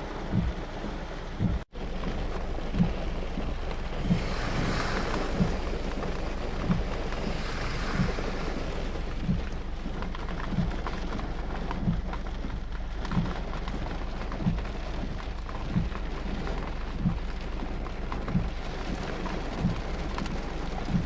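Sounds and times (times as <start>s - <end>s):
dull low thump: 0.0s - 21.0s
heavy rain: 0.0s - 21.0s.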